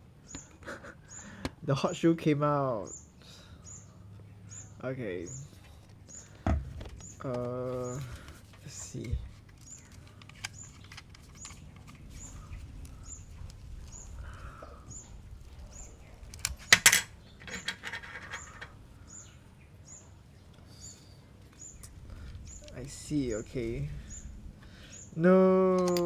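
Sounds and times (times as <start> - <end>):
bird chirping: 2.7 - 26.0.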